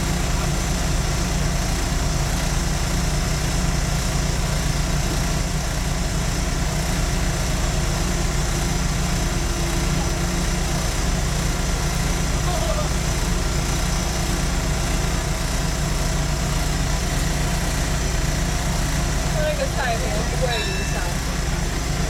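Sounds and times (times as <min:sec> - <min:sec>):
diesel railcar engine idling: 0:00.0 - 0:22.0.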